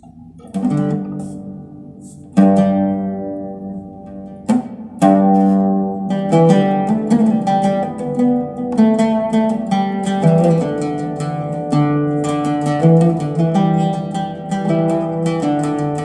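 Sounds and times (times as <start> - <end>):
plucked string chords: 0.0 - 16.0.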